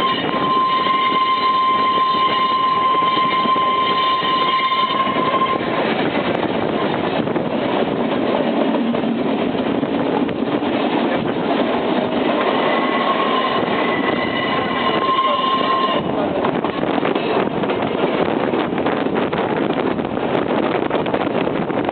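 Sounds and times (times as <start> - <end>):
tramcar wheels rumbling and rattling: 0.0 - 21.9.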